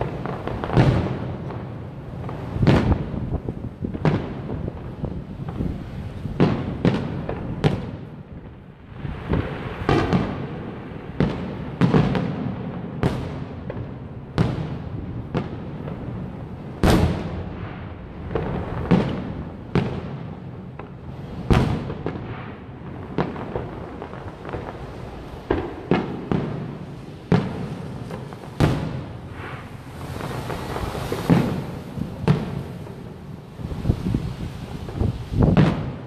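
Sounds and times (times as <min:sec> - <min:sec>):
firework shells booming: 0:00.0 - 0:05.7, 0:06.3 - 0:16.2, 0:16.8 - 0:36.0
rapid firework crackling: 0:00.0 - 0:36.0.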